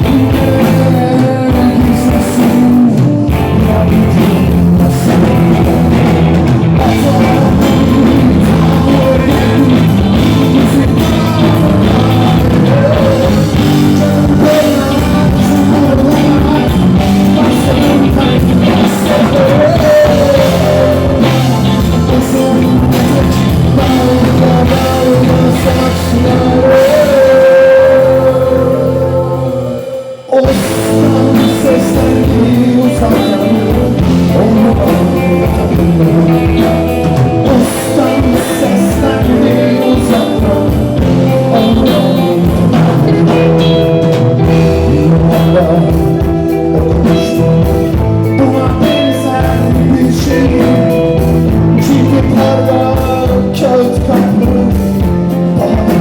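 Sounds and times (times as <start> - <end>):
drum kit: 0.0 - 56.0
electric guitar: 0.0 - 56.0
person singing: 0.0 - 56.0
rock band playing: 0.0 - 56.0.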